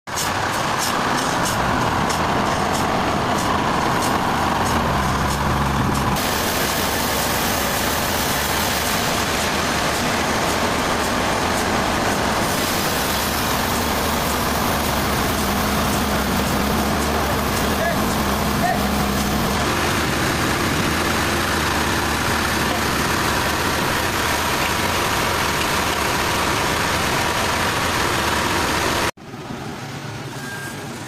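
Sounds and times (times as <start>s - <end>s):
sawmill engine hum: 0.1s - 29.4s
saw cutting noise: 1.3s - 29.1s.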